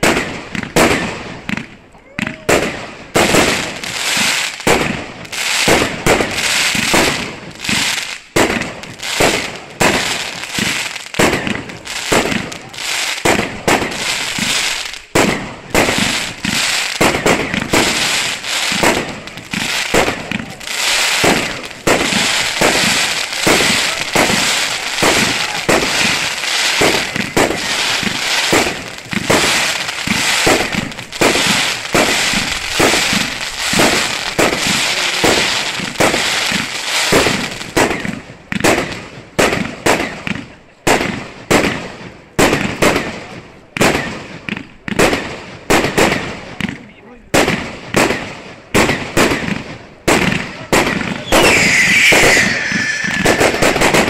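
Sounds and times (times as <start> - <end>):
crackling fireworks stars: 0.0 - 54.0
fireworks going off: 0.0 - 54.0.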